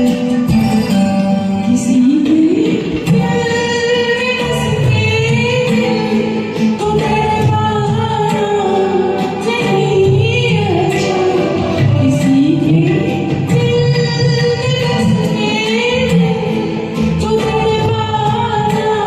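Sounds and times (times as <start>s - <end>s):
karaoke backing track: 0.0s - 19.0s
woman singing: 0.0s - 19.0s.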